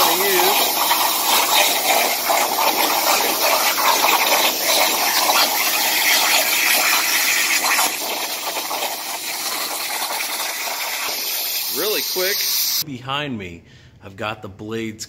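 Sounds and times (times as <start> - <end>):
plasma cutter hissing: 0.0 - 12.8.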